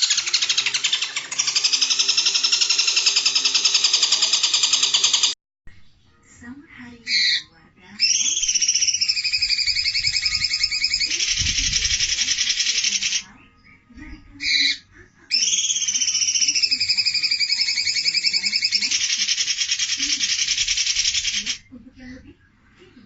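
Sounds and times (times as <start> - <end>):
bird trilling: 0.0 - 5.4, 7.0 - 13.3, 14.4 - 21.7.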